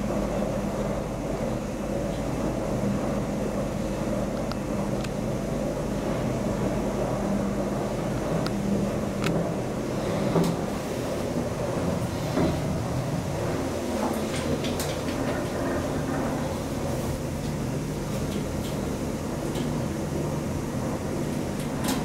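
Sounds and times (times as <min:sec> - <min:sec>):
elevator drive hum: 0:00.0 - 0:22.0.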